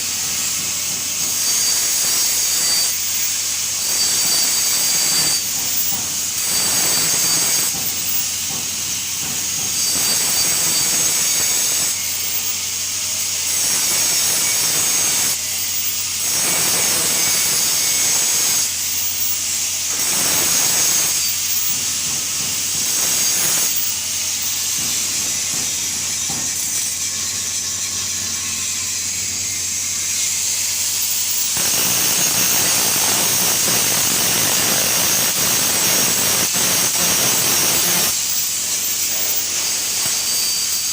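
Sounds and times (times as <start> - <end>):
welding arc hissing: 0.0 - 40.9.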